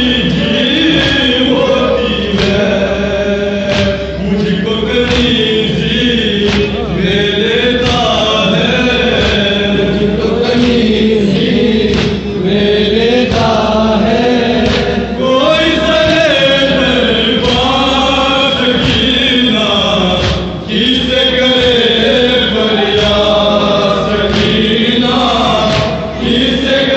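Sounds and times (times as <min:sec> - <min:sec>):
men chanting into microphone: 0:00.0 - 0:26.9
chest-beating thuds: 0:02.2 - 0:26.9.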